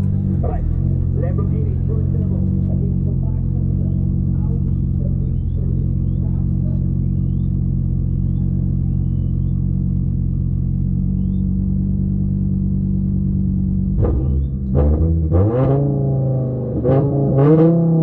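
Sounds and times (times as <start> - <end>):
race car engine idling: 0.0 - 16.8.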